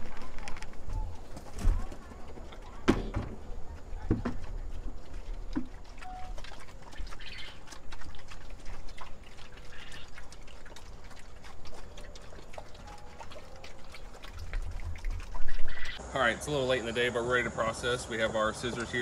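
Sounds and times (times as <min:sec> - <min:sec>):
pigs chewing and smacking: 0:00.0 - 0:16.7.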